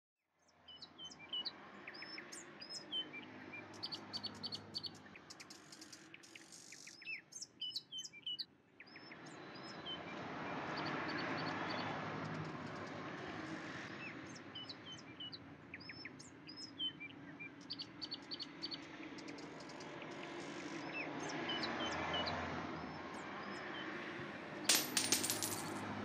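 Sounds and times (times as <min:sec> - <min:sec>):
small birds chirping: 0:00.4 - 0:10.0, 0:10.8 - 0:24.1.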